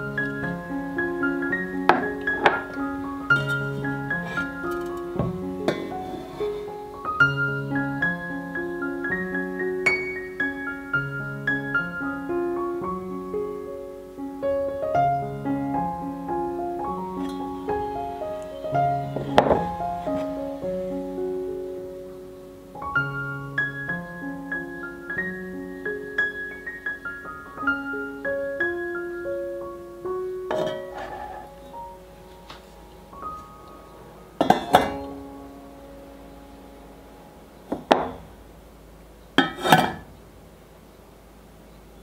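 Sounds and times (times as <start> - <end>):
piano music: 0.0 - 40.2.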